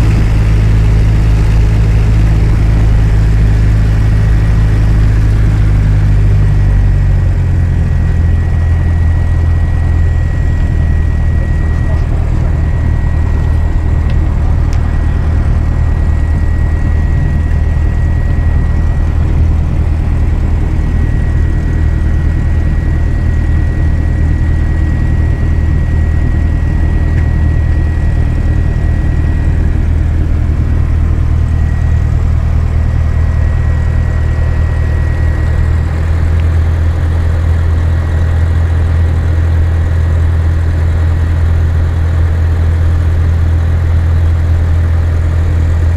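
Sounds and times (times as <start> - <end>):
propeller plane engine running: 0.0 - 45.9.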